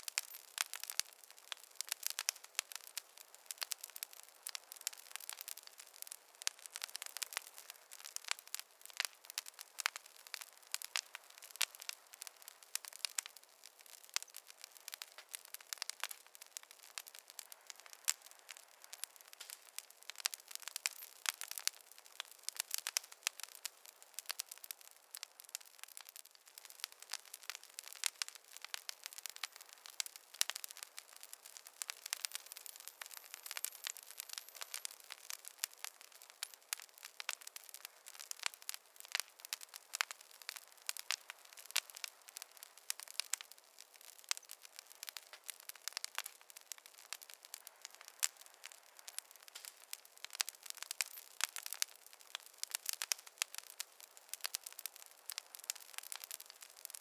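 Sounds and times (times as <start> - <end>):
campfire pops and snaps: 0.0 - 57.0
hiss of burning fire: 0.0 - 57.0.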